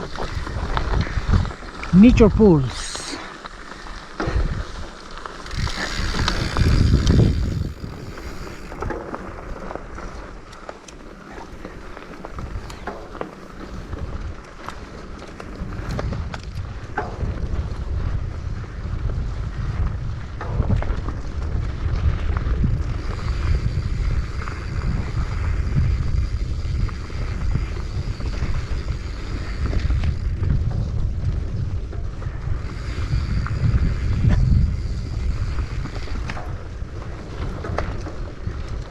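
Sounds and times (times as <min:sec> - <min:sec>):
wind buffeting microphone: 0:00.0 - 0:02.7, 0:04.2 - 0:09.0, 0:13.5 - 0:38.9.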